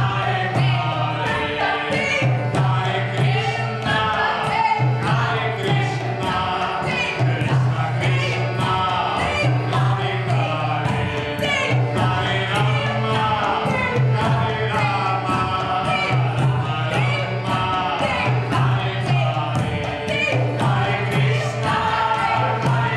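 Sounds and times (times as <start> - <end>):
group of voices singing: 0.0 - 22.9.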